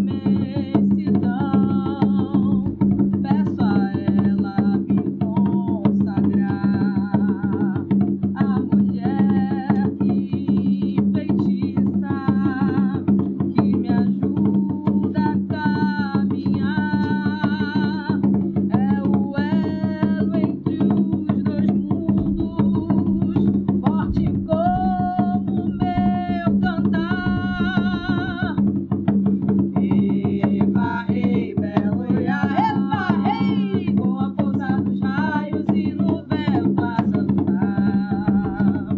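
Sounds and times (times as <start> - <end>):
drums and percussion beat: 0.0 - 38.9
song with singing: 0.0 - 38.9.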